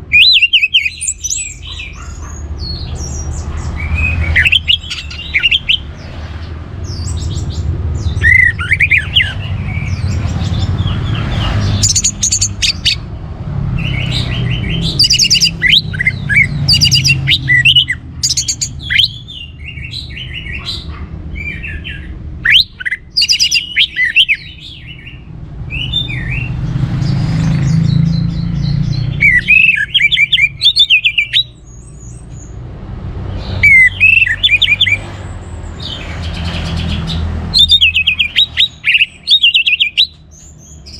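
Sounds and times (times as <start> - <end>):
thrush singing: 0.0 - 31.7, 33.0 - 40.9.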